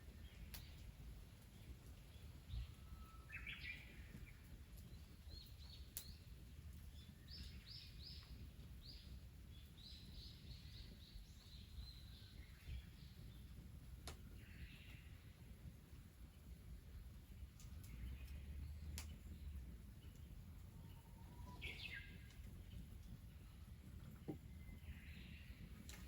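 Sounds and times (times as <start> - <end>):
faint birdsong: 0.0 - 26.0
low outdoor background rumble: 0.0 - 26.0.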